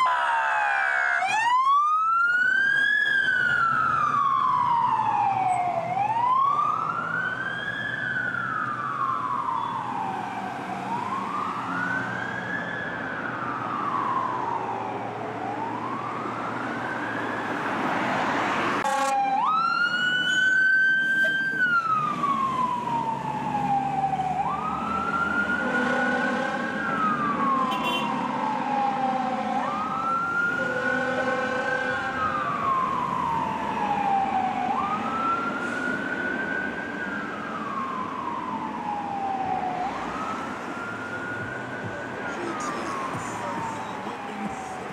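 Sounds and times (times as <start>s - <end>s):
heavy vehicle engines and traffic: 0.0s - 44.9s
sirens wailing: 0.0s - 44.9s.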